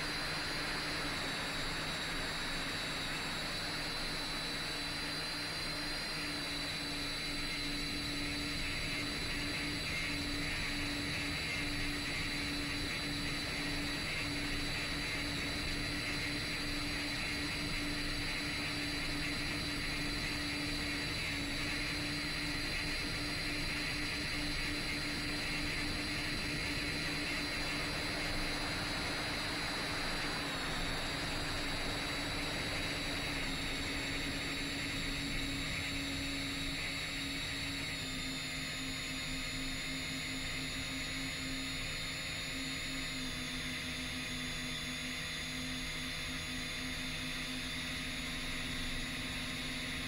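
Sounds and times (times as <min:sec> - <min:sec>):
drone motors whining: 0:00.0 - 0:50.0.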